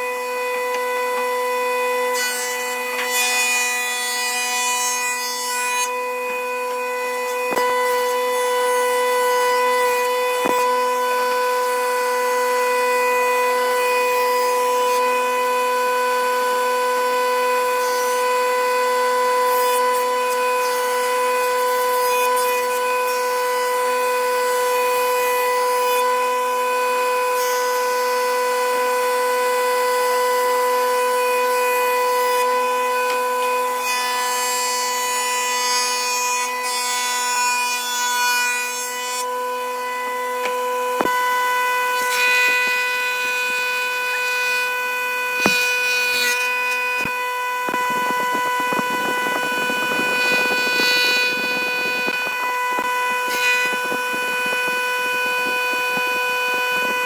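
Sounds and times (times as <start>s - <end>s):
power saw cutting wood: 0.0s - 57.0s.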